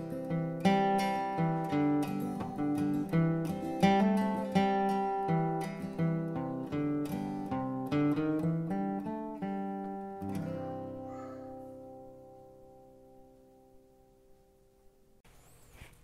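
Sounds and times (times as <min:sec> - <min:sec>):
acoustic guitar melody: 0:00.0 - 0:15.1.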